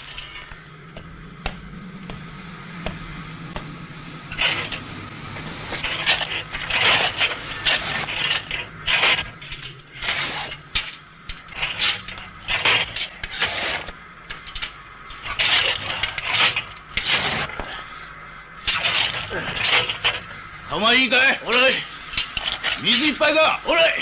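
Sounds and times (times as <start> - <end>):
steel shovel scraping coal: 0.0 - 24.0.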